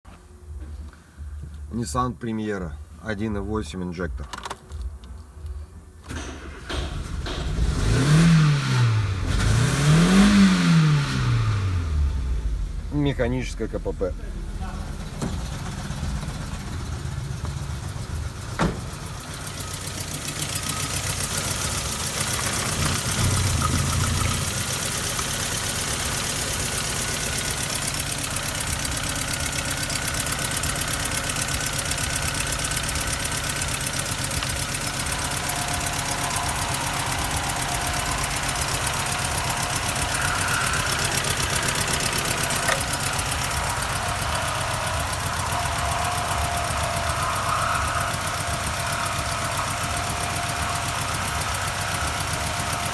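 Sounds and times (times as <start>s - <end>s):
car engine idling: 4.7s - 52.9s.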